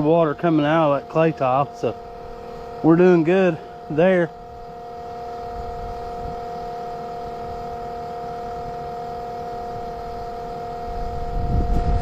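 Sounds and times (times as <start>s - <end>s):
pump motor whining: 0.0s - 12.0s.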